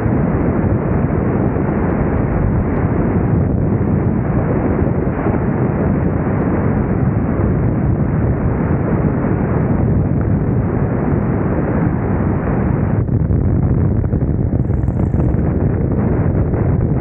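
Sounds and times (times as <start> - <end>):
airplane engine rumble: 0.0 - 17.0
wind buffeting microphone: 0.0 - 17.0.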